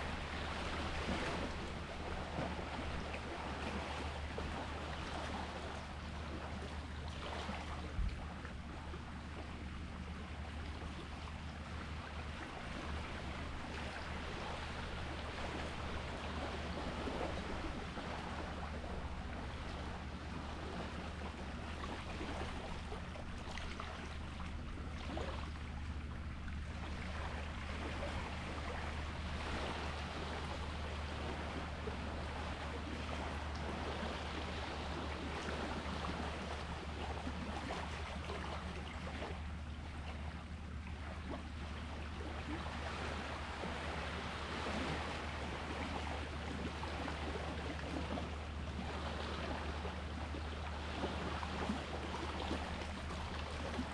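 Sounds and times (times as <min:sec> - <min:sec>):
sea water lapping: 0:00.0 - 0:53.9.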